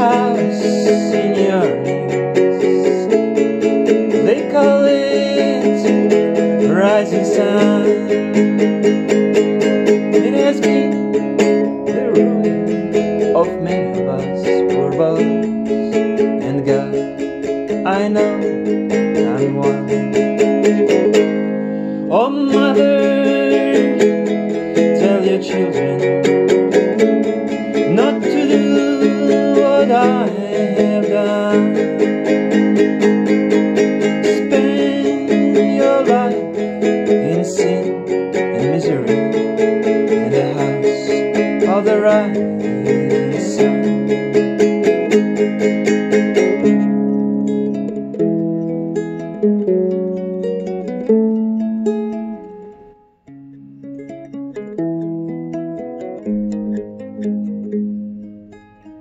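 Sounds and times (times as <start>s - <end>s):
plucked guitar melody: 0.0s - 59.0s.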